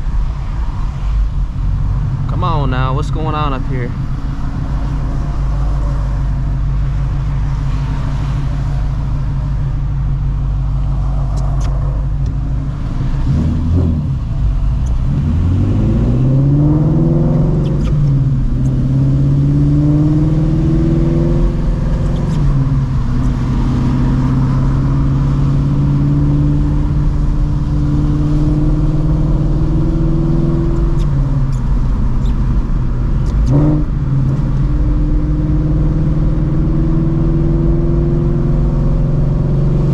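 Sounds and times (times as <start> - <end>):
car engine idling and accelerating: 0.0 - 39.9.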